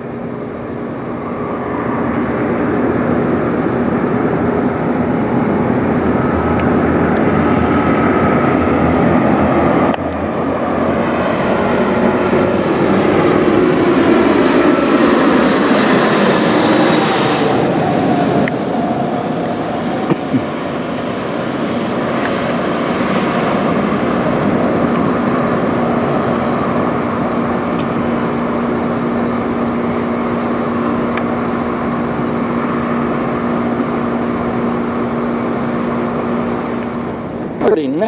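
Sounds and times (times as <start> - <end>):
jet engine roar: 0.0 - 38.0
low hum: 0.0 - 38.0.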